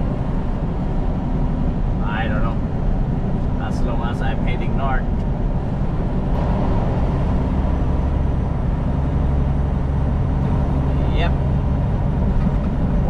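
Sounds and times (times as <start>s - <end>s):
diesel truck engine droning: 0.0s - 13.0s
road noise: 0.0s - 13.0s.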